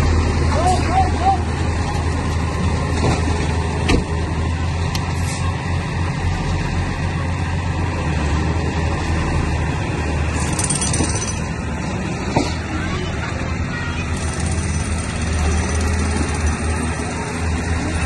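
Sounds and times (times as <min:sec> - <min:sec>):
diesel construction machinery running: 0:00.0 - 0:18.0.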